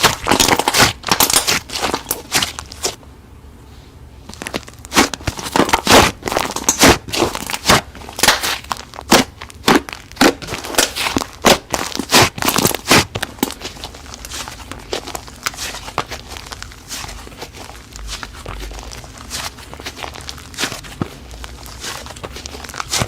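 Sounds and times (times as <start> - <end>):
slime crackling and popping: 0.0 - 3.0, 4.3 - 23.0.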